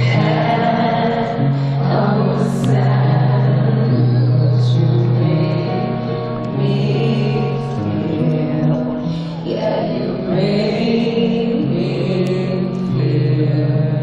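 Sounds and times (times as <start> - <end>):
live concert music: 0.0 - 14.0
woman singing into microphone: 0.0 - 14.0.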